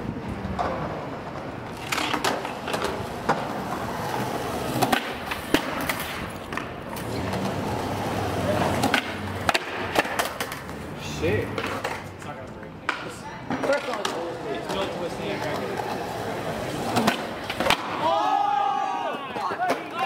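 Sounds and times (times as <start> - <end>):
skateboard wheels rolling on pavement: 0.0 - 20.0
skateboard clacking on ground: 0.2 - 18.2, 18.9 - 20.0.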